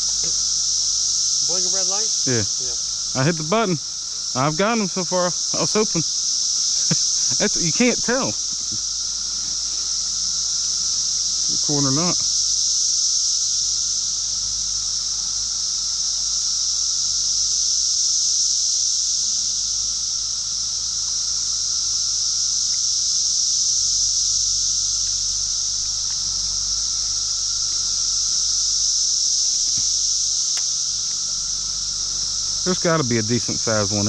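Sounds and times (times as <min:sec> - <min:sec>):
insects buzzing: 0:00.0 - 0:34.0.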